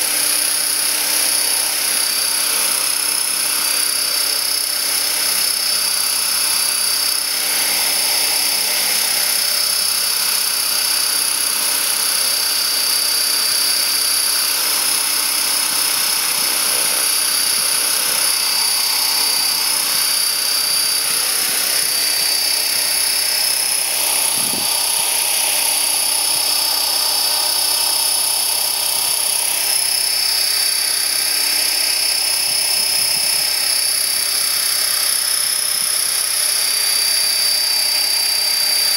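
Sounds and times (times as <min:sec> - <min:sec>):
electric motor high whine: 0:00.0 - 0:38.9
rotor blades rushing: 0:00.0 - 0:38.9.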